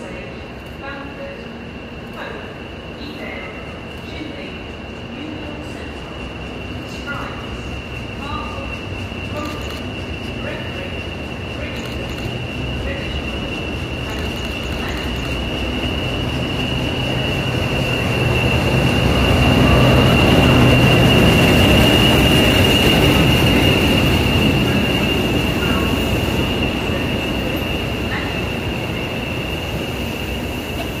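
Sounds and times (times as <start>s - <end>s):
diesel locomotive passing: 0.0s - 31.0s
passenger coaches rolling by: 0.0s - 31.0s.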